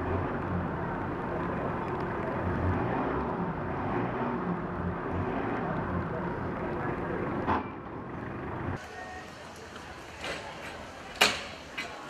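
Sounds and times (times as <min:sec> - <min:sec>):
truck engine running: 0:00.0 - 0:10.2
street noise: 0:00.0 - 0:12.0.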